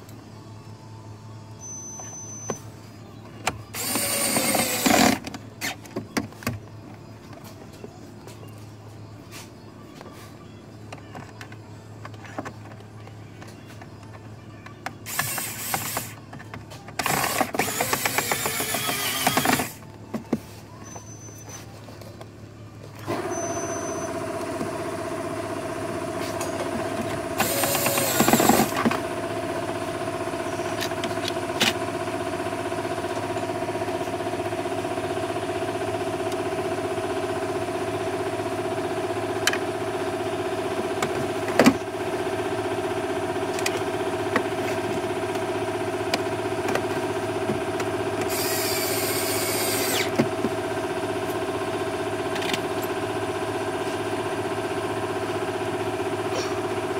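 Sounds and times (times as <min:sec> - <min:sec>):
steady motor hum: 0:00.0 - 0:56.9.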